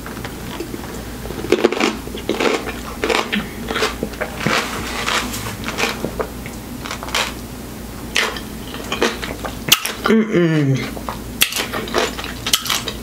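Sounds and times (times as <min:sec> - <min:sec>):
chewing crunchy pickle: 0:00.5 - 0:07.4, 0:08.1 - 0:10.1, 0:10.8 - 0:13.0.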